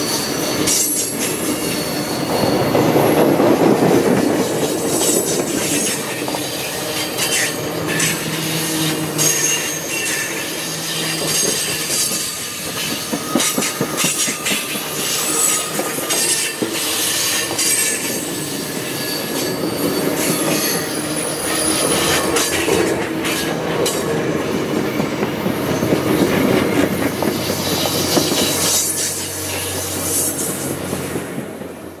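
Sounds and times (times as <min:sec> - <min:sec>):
high-pitched wheel squeal: 0:00.0 - 0:03.4, 0:04.6 - 0:30.9
train wheels clattering over rail joints: 0:00.2 - 0:31.8.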